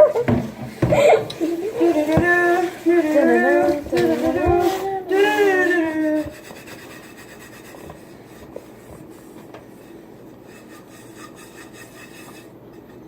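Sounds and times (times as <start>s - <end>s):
rubbing and handling noise: 0.0s - 13.0s.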